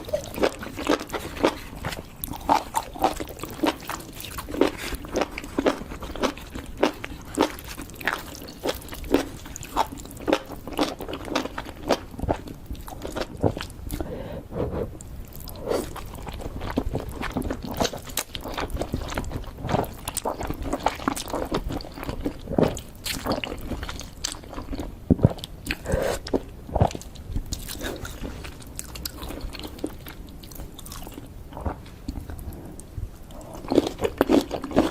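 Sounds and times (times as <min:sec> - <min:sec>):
crunchy sweets being chewed: 0:00.0 - 0:34.9.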